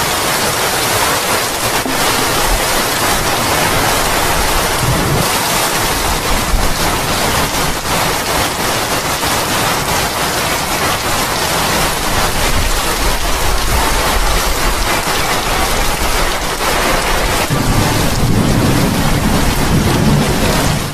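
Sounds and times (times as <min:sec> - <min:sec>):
rain falling on leaves: 0:00.0 - 0:20.9.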